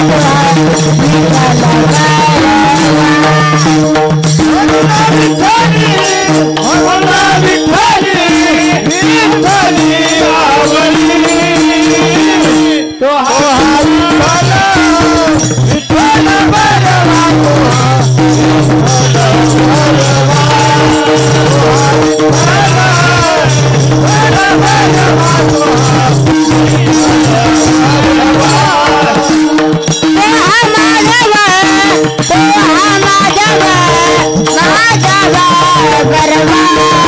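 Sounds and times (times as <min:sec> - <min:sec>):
person singing devotional melody: 0:00.0 - 0:37.0
rattling percussion: 0:00.0 - 0:37.0.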